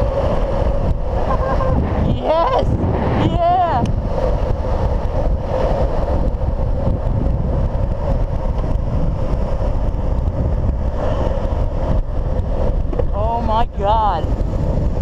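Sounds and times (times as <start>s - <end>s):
longboard wheels rolling on asphalt: 0.0s - 15.0s
wind rushing over microphone: 0.0s - 15.0s.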